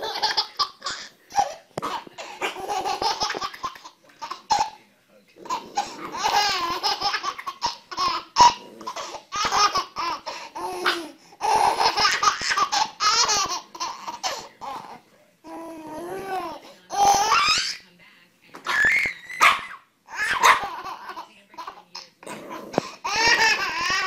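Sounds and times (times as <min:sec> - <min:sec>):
baby laughing: 0:00.0 - 0:04.8, 0:05.4 - 0:17.8, 0:18.6 - 0:22.1, 0:22.7 - 0:24.0.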